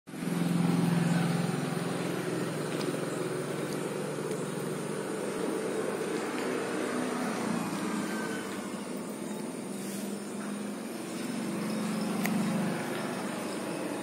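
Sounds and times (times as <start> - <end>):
low engine-like hum: 0.1 - 14.0.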